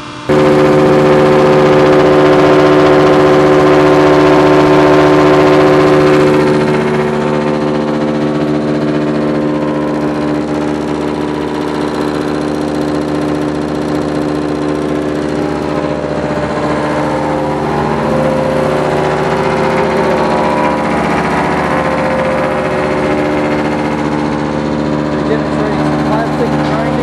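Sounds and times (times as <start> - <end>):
grinder motor humming and whining: 0.0 - 27.0.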